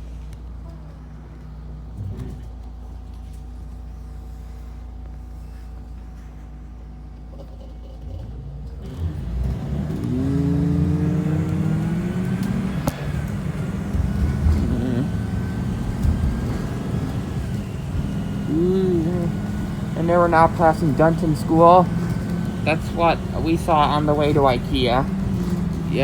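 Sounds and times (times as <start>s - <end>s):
bus engine accelerating with whine: 0.0s - 26.0s.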